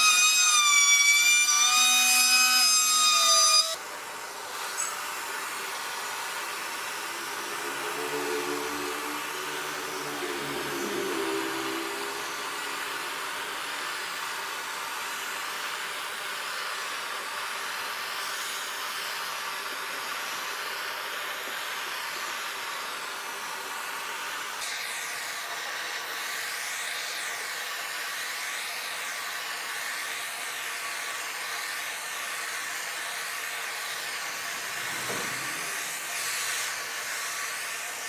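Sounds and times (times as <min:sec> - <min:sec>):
torch flame hissing: 0:03.8 - 0:38.0.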